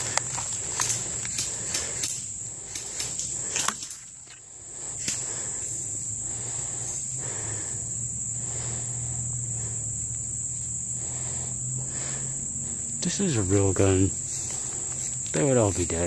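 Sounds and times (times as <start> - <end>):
low hum: 0.0 - 15.9
insects droning: 0.0 - 16.0.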